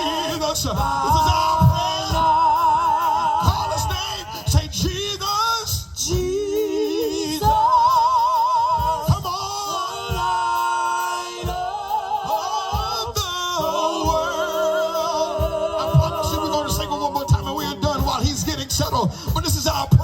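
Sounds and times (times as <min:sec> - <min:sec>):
drum hits: 0:00.0 - 0:20.0
organ chords: 0:00.0 - 0:20.0.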